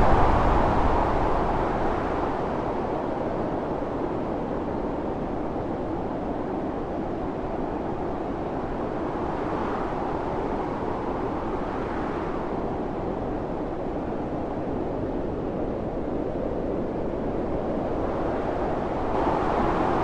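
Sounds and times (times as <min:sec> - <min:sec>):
strong wind blowing: 0:00.0 - 0:20.0.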